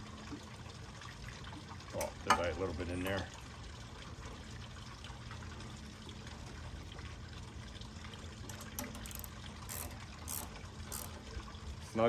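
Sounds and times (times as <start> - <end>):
fuel pouring into tank: 0.0 - 12.0.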